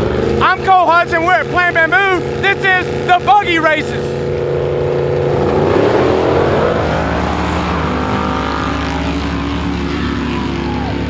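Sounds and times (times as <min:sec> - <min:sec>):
buggy engines at full throttle: 0:00.0 - 0:11.0.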